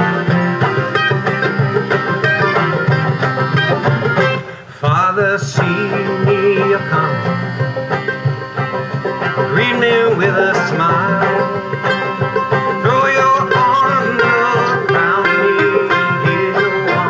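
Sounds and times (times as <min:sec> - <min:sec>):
accordion: 0:00.0 - 0:17.0
acoustic guitar: 0:00.0 - 0:17.0
banjo: 0:00.0 - 0:17.0
cajon beat: 0:00.0 - 0:17.0
mandolin: 0:00.0 - 0:17.0.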